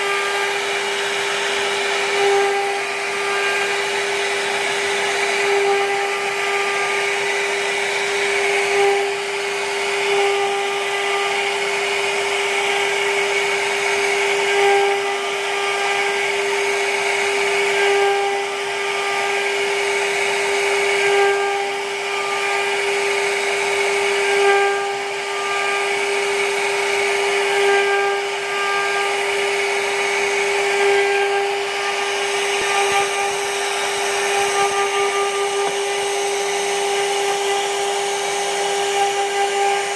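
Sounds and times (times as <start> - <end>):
router spindle carving wood: 0.0 - 39.9.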